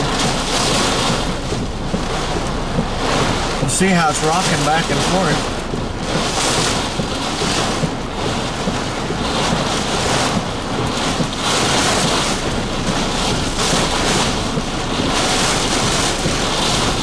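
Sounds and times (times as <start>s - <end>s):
wind gusting against vehicle: 0.0s - 17.0s.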